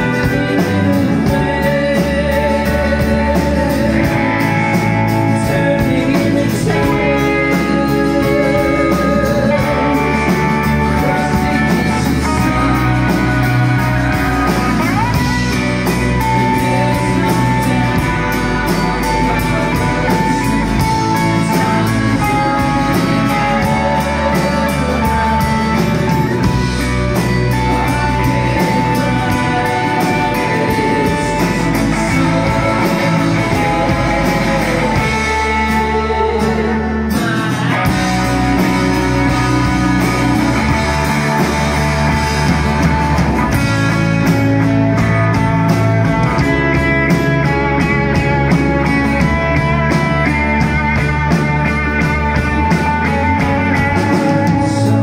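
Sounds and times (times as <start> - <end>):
bass guitar: 0.0 - 55.0
drums: 0.0 - 55.0
electric guitar: 0.0 - 55.0
male lead vocal: 0.0 - 55.0
strummed acoustic guitar: 0.0 - 55.0.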